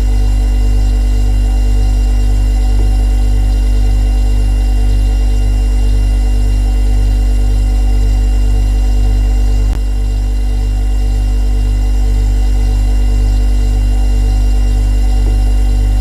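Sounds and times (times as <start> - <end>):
refrigerator compressor humming: 0.0 - 16.0.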